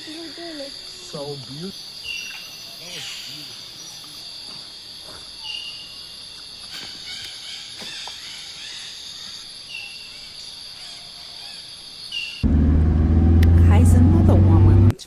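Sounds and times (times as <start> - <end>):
insect chorus drone: 0.0 - 12.5.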